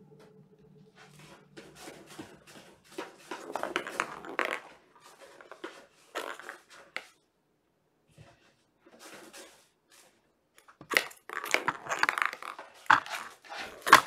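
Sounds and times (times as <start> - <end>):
kittens scratching and rustling: 0.9 - 7.3, 8.1 - 14.0.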